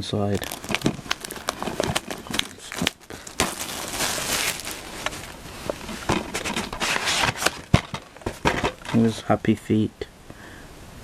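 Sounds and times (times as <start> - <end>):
packaging rustle: 0.0 - 9.1
plastic packaging crinkling: 0.0 - 9.1.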